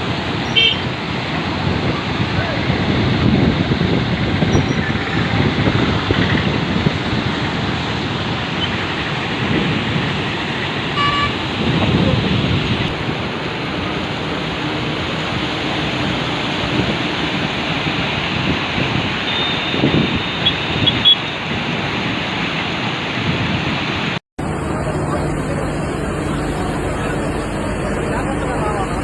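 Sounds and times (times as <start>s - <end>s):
rushing floodwater: 0.0s - 29.0s.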